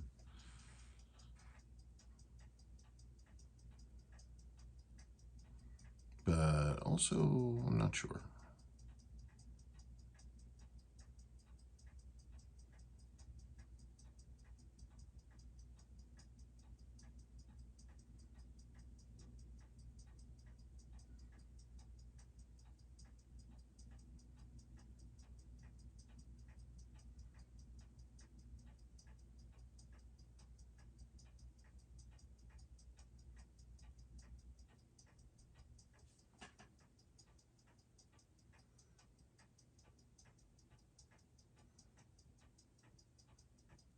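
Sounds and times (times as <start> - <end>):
watch ticking rapidly: 0.0 - 43.9.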